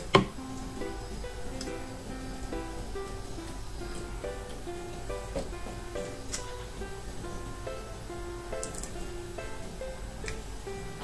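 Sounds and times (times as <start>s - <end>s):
plucked ukulele melody: 0.0s - 11.0s.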